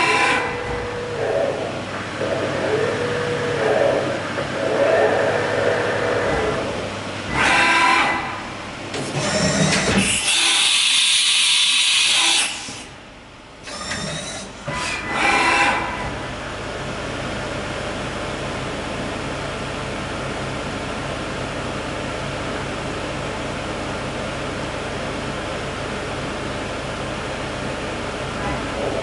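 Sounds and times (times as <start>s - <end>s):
machine running hum: 0.0s - 29.0s.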